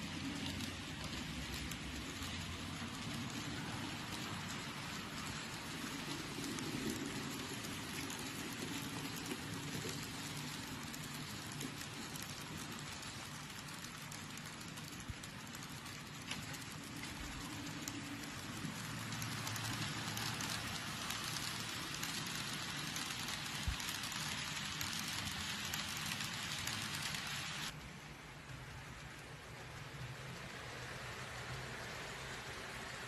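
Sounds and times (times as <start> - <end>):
model train wheels rattling: 0.0 - 33.0.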